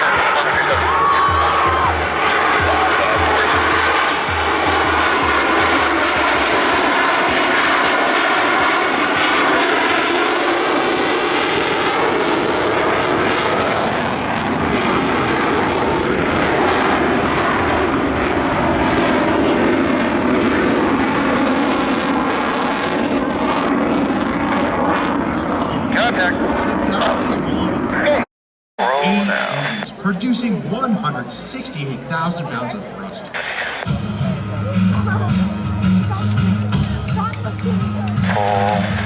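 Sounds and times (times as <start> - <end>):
jet engines flying past: 0.0 - 28.2, 28.8 - 39.0.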